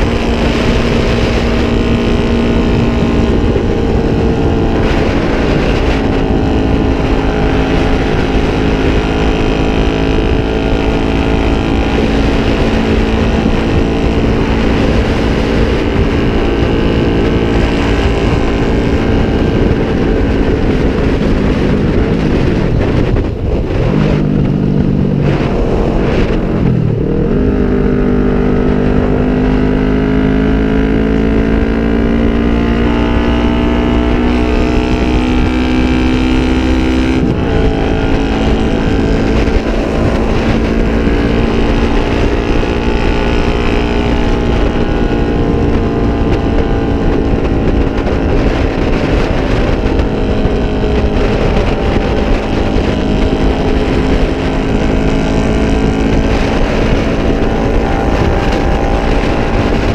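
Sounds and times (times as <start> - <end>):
motorcycle engine accelerating: 0.0 - 59.9
wind on microphone: 0.0 - 59.9.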